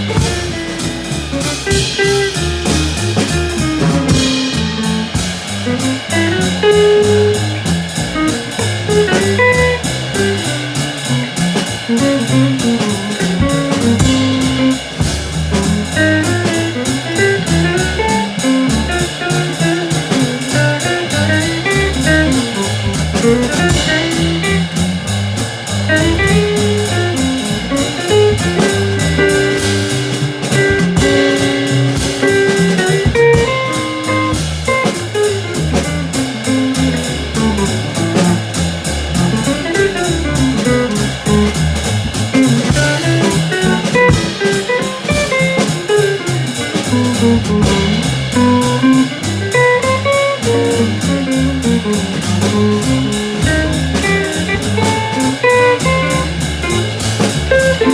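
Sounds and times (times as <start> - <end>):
bass: 0.0 - 57.9
drum kit cymbals: 0.0 - 57.9
guitar melody: 0.0 - 57.9.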